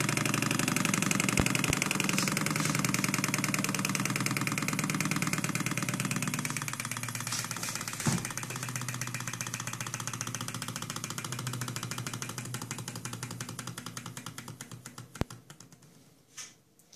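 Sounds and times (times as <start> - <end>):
model engine fast ticking: 0.0 - 15.9.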